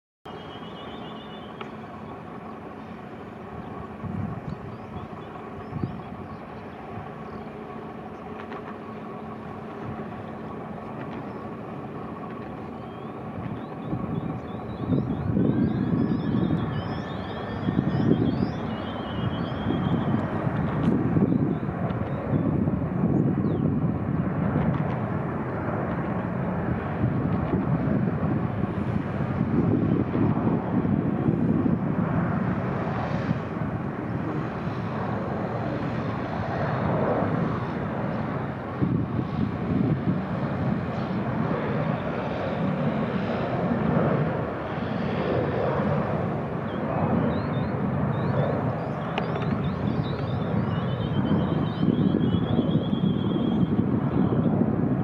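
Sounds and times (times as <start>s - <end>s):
jet engines roaring: 0.3s - 55.0s.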